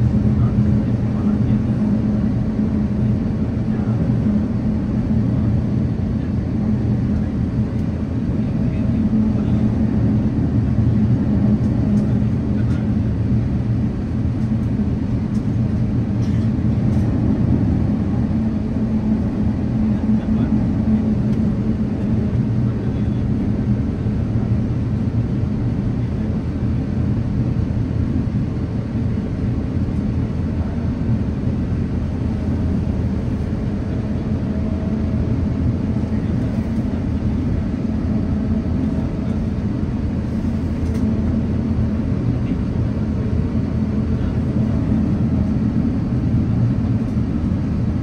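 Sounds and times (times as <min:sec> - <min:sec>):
airplane cabin engine drone: 0:00.0 - 0:48.0.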